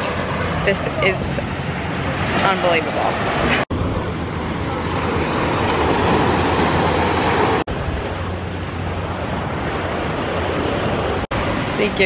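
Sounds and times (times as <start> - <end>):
outdoor rush: 0.0 - 12.0
waves washing up beach: 0.0 - 12.0.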